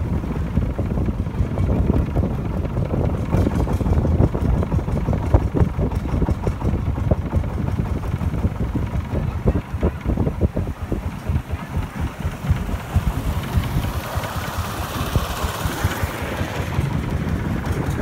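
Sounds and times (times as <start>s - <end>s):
motorboat engine rumbling: 0.0s - 18.0s.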